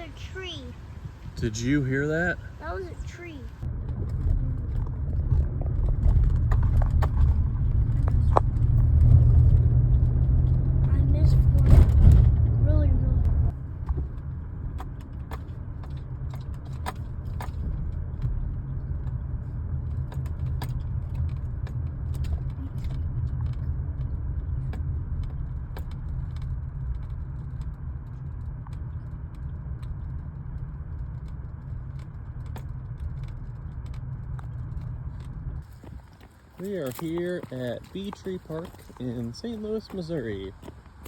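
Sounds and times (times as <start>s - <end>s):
car driving rumble inside cabin: 0.0s - 41.0s.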